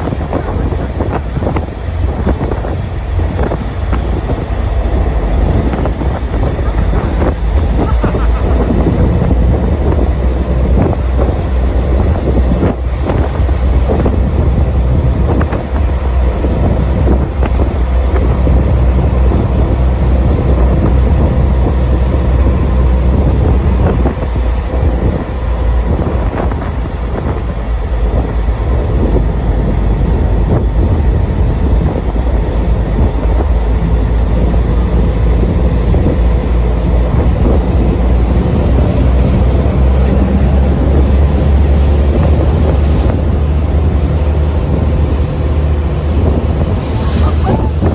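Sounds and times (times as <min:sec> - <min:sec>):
boat engine running: 0:00.0 - 0:47.9
wind buffeting microphone: 0:00.0 - 0:47.9.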